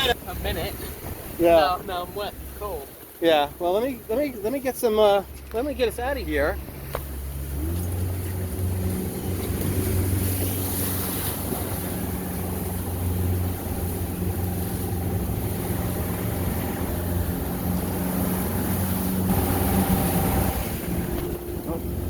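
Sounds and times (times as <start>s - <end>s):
motorboat engine humming: 0.0s - 22.0s
water rushing: 0.0s - 22.0s.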